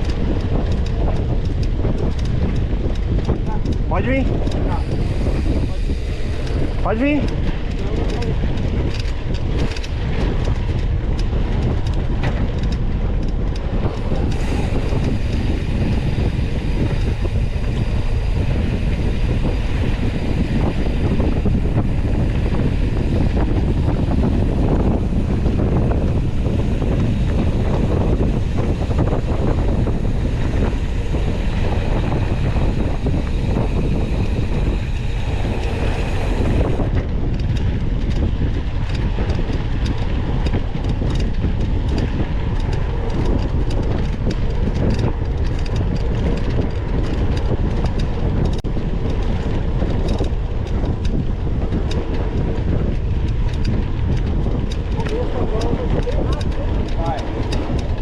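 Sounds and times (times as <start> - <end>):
bike clicks and rattles: 0.0 - 58.0
low rumble of moving bike: 0.0 - 58.0
wind buffeting microphone: 0.0 - 58.0.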